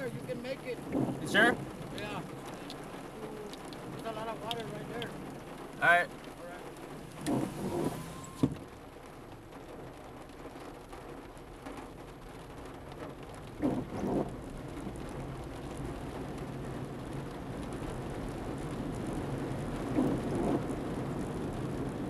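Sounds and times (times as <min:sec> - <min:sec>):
floodwater washing around car: 0:00.0 - 0:22.0
rain on car windshield and roof: 0:00.0 - 0:22.0.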